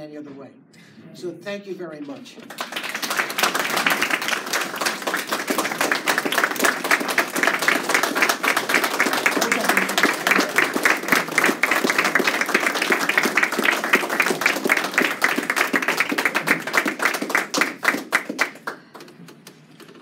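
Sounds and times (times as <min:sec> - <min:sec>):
audience applauding: 0:02.5 - 0:19.5.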